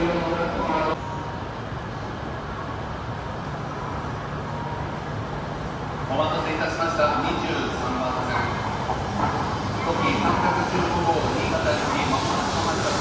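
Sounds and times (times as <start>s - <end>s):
train rumbling with hiss: 0.0s - 13.0s.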